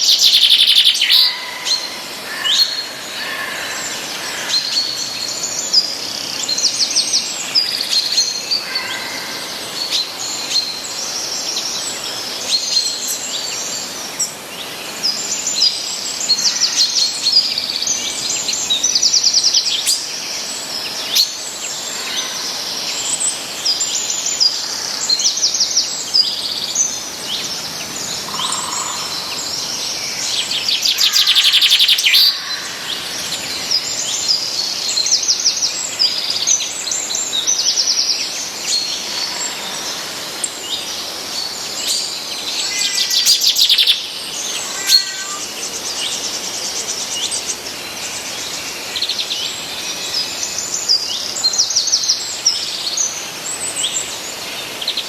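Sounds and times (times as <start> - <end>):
songbirds chirping and singing: 0.0 - 15.5, 19.6 - 53.2.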